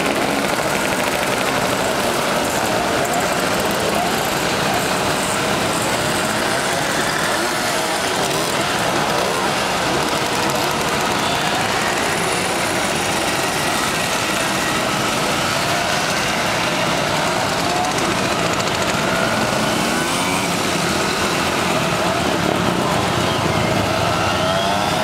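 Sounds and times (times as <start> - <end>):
two-stroke mopeds revving: 0.0 - 25.0.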